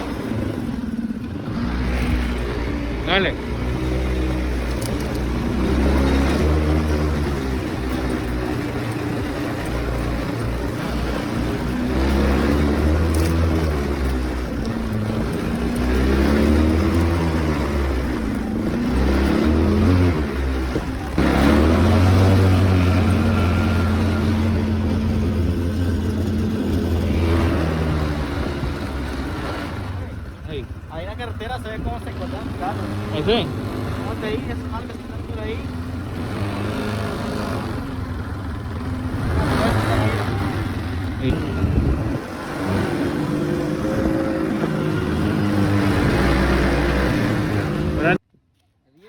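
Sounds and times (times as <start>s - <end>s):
vehicle engine revving: 0.0s - 48.2s.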